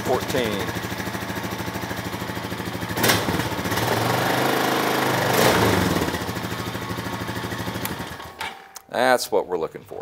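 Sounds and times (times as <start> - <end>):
engine idling and revving: 0.0 - 8.4.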